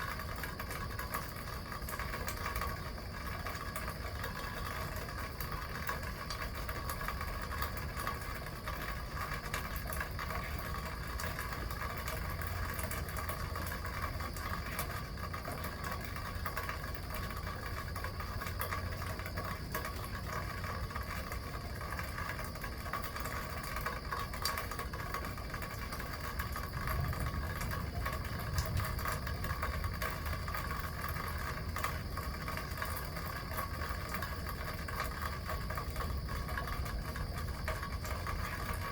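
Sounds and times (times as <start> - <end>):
steady rain: 0.0 - 38.9
water splashing from gutter: 0.0 - 38.9.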